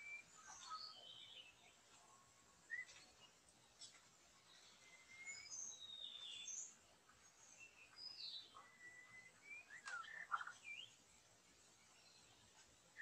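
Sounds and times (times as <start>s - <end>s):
songbird chirps and whistles: 0.0s - 13.0s.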